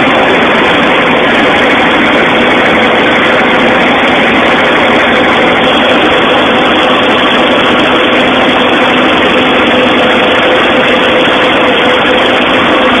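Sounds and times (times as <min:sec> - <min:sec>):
combine diesel engine drone: 0:00.0 - 0:13.0.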